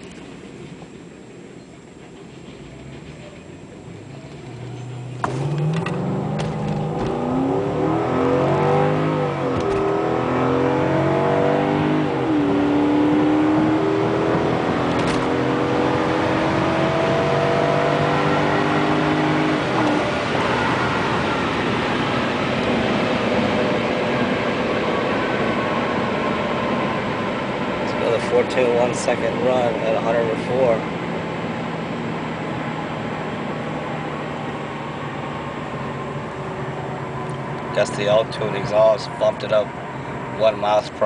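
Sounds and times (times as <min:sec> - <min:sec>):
road and wind noise: 0:00.0 - 0:41.0
car engine accelerating hard: 0:02.5 - 0:41.0.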